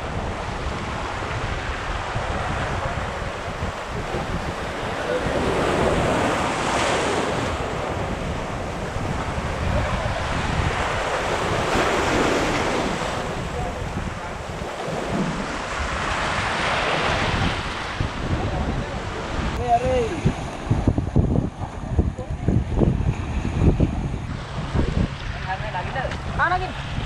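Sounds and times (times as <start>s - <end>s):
waves washing over rocks: 0.0s - 27.0s
wind buffeting microphone: 0.0s - 27.0s.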